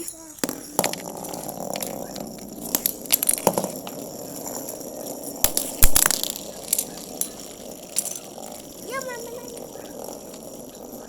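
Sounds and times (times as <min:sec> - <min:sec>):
spinning tops whirring: 0:00.0 - 0:11.0.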